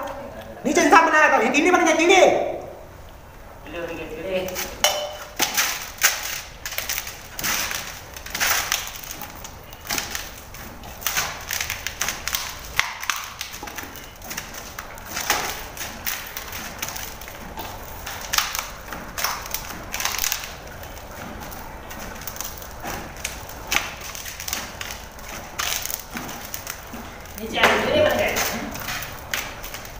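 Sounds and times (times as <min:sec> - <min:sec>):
dough thumping in metal bowl: 0:04.5 - 0:29.9.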